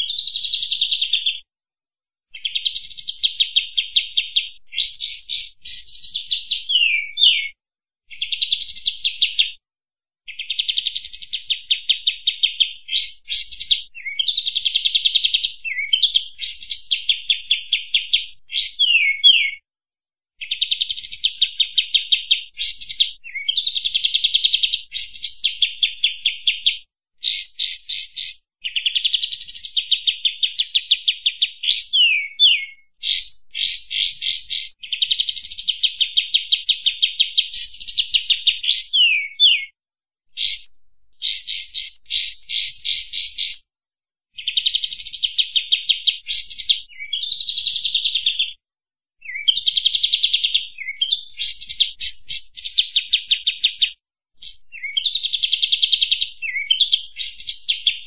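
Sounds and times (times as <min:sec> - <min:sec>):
bird singing trills and whistles: 0:00.0 - 0:01.4, 0:02.4 - 0:09.5, 0:10.3 - 0:19.6, 0:20.4 - 0:39.8, 0:40.4 - 0:43.6, 0:44.4 - 0:48.4, 0:49.2 - 0:58.0.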